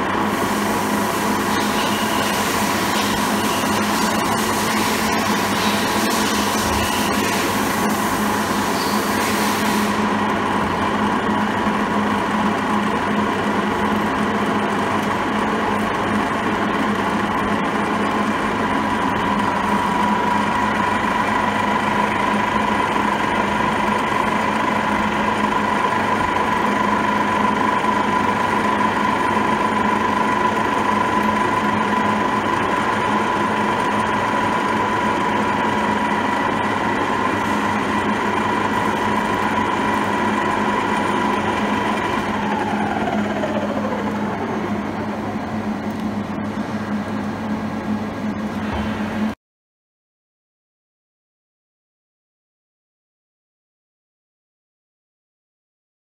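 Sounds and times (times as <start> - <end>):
milling machine humming and whining: 0.0 - 49.4.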